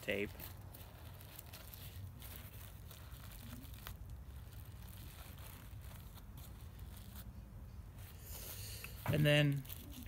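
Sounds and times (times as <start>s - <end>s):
paper and tape crinkling: 0.0s - 10.0s.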